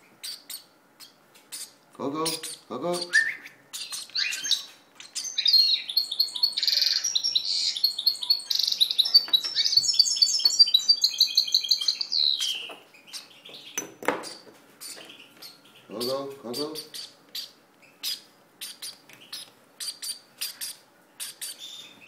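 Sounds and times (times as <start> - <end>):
baby parrot begging chirps: 0.2 - 13.4, 14.2 - 21.9.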